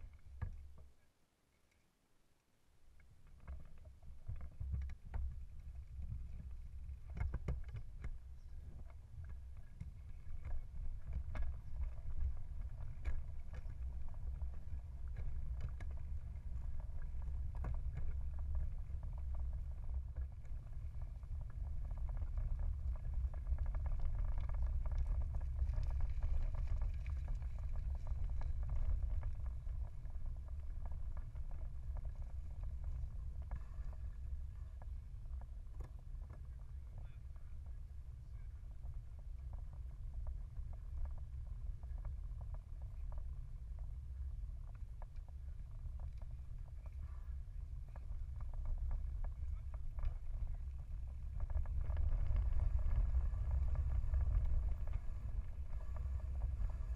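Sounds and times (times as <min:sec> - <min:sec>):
wind rumbling on microphone: 0:00.0 - 0:00.8, 0:03.2 - 0:56.9
bicycle tyre noise: 0:09.4 - 0:56.9.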